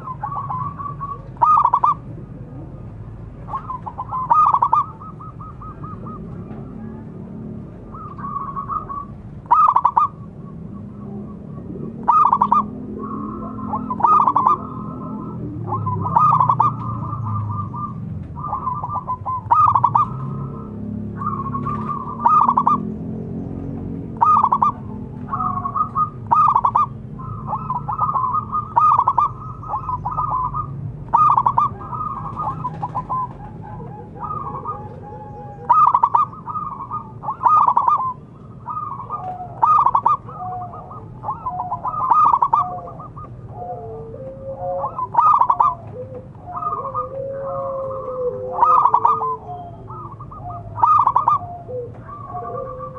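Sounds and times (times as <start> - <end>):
doves cooing: 0.0 - 52.9.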